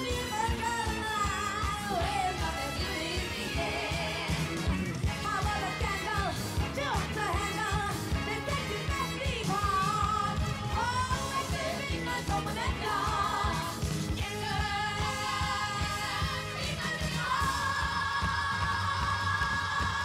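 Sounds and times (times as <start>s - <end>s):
song with driving beat: 0.0s - 20.0s.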